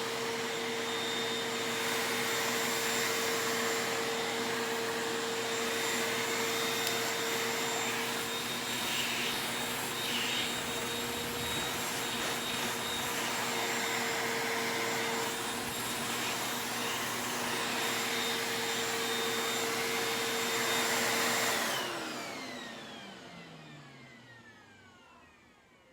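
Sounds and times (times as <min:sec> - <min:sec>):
vacuum motor spinning down: 0:00.0 - 0:25.7
vacuum cleaner running: 0:00.0 - 0:25.9.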